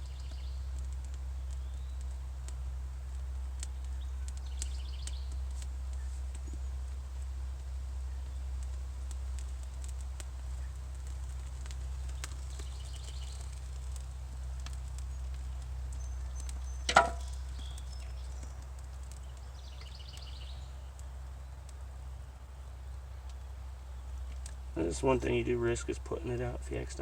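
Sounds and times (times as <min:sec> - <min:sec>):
fire crackling: 0:00.0 - 0:27.0
low steady rumble: 0:00.0 - 0:27.0.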